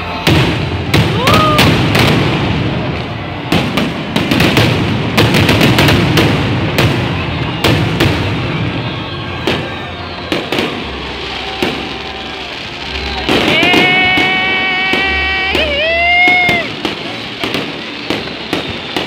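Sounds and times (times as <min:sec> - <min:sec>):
firework rising whistle: 0:00.0 - 0:19.0
fireworks bangs and crackles: 0:00.0 - 0:19.0.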